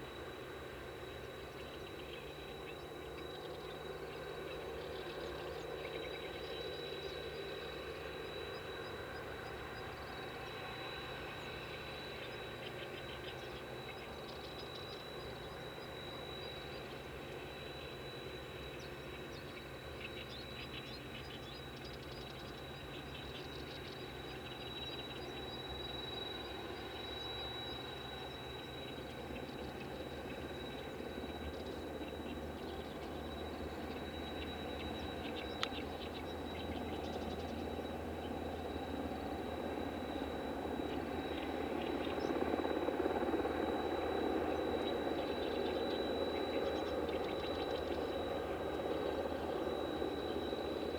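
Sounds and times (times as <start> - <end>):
machinery hum with high whine: 0.0 - 50.9.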